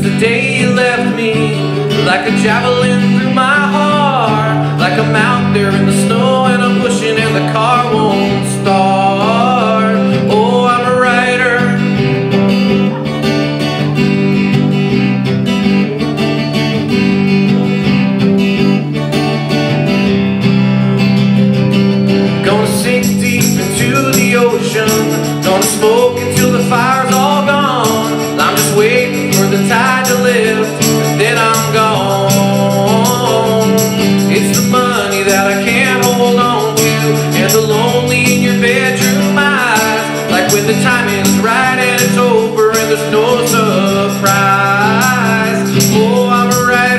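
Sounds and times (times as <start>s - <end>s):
person singing: 0.0s - 14.1s, 22.2s - 46.9s
strummed acoustic guitars: 0.0s - 46.9s.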